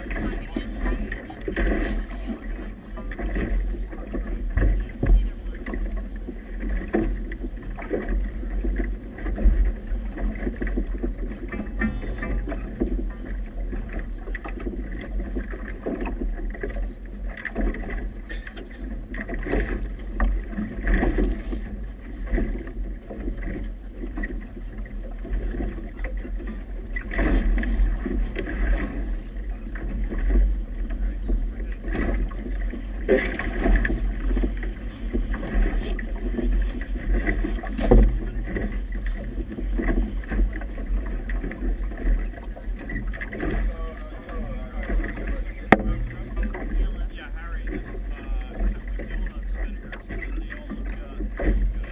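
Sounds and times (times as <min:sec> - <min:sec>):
water splashing against boat hull: 0:00.0 - 0:51.9.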